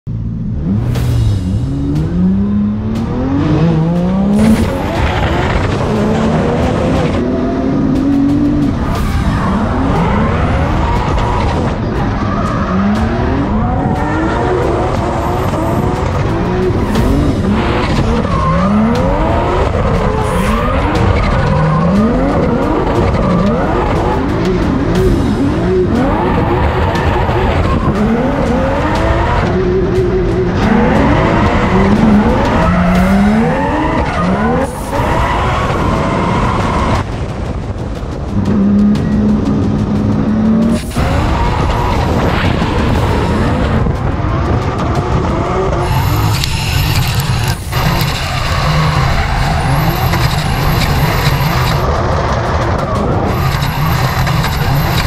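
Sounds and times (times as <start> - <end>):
car engine revving: 0.1 - 55.0
tyres squealing and skidding: 3.2 - 37.0, 40.6 - 55.0.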